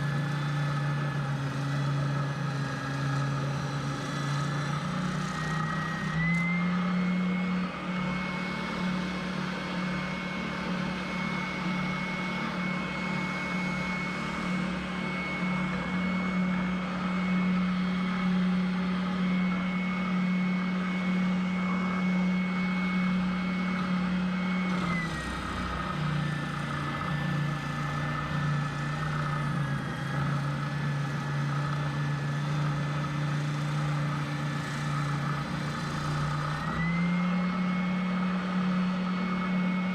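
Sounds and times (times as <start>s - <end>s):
electric router whining: 0.0s - 39.9s.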